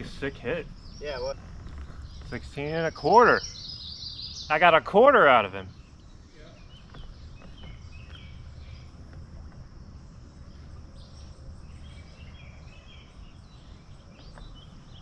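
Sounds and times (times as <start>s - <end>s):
high chirping of small creatures: 0.0s - 15.0s
steady low river rumble: 0.0s - 15.0s.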